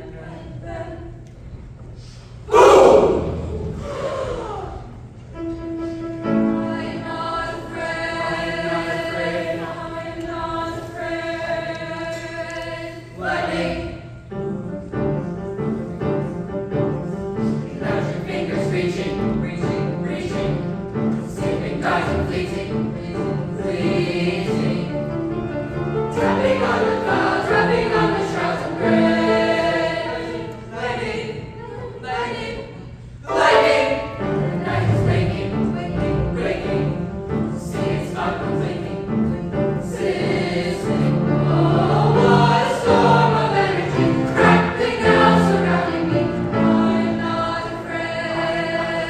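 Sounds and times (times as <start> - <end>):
mixed choir singing: 2.5 - 5.0, 6.1 - 15.2, 17.3 - 49.0.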